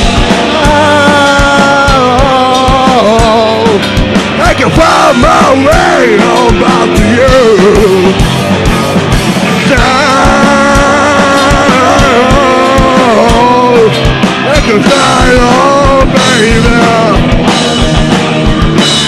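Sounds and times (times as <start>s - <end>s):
electric guitars: 0.0s - 19.0s
person singing: 0.3s - 8.2s, 9.6s - 17.5s.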